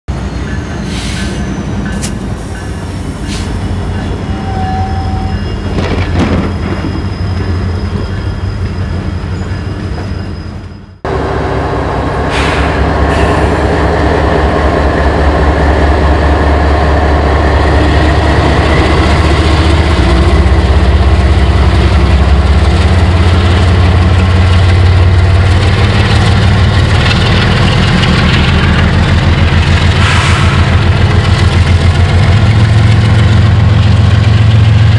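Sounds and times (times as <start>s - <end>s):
diesel locomotive engine rumble: 0.1s - 34.9s.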